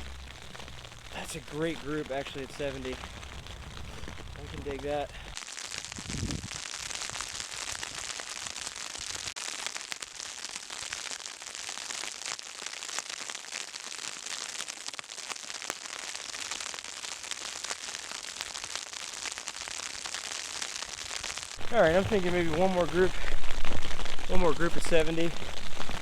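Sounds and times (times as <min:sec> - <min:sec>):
snow and sleet pattering: 0:00.0 - 0:26.0.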